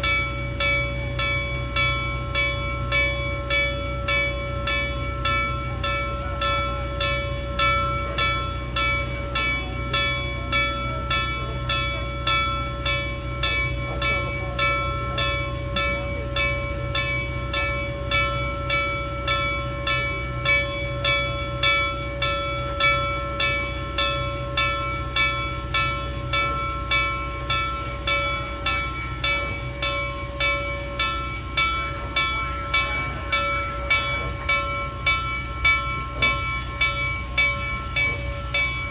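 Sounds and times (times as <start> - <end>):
steam locomotive bell ringing: 0.0 - 38.9.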